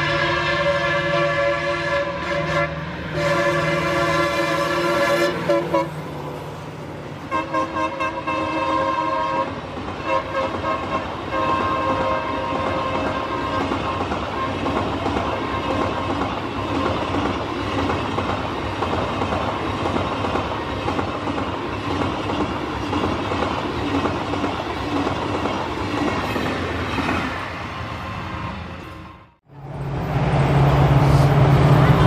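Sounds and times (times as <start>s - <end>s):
train wheels rattling on rails: 2.5s - 32.0s.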